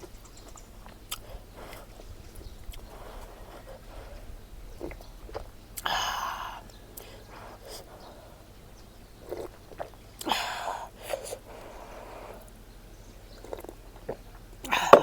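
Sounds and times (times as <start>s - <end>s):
person chewing with wet clicks: 0.0s - 15.0s.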